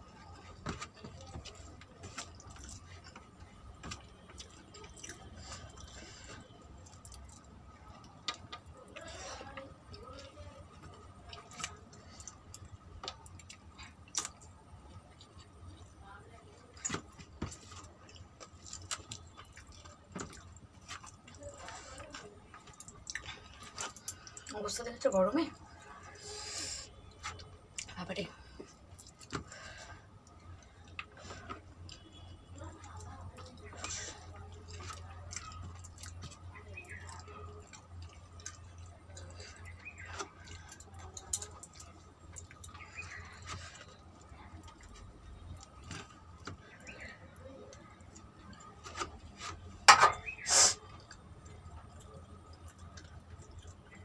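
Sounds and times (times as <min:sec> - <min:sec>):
chewing and mouth sounds: 0:00.0 - 0:24.7, 0:25.5 - 0:54.0
faint low hum: 0:00.0 - 0:54.0.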